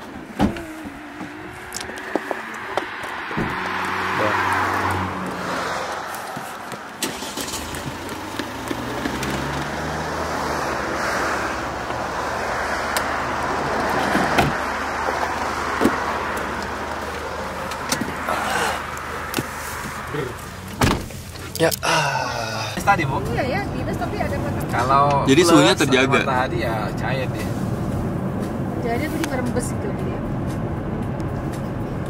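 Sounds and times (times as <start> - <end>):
cars passing: 0.0 - 32.0.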